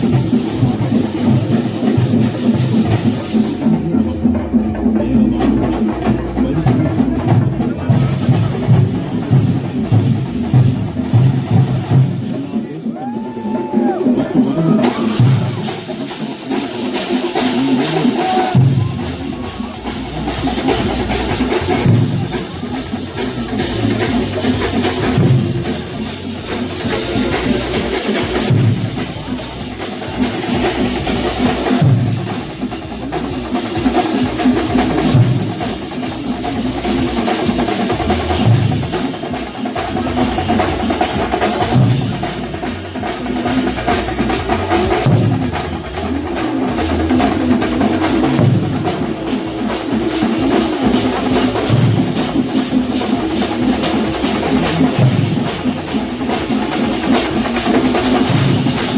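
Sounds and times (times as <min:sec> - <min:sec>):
heavy low drum beat: 0:00.0 - 0:58.9
percussion ensemble drumming: 0:00.0 - 0:58.9.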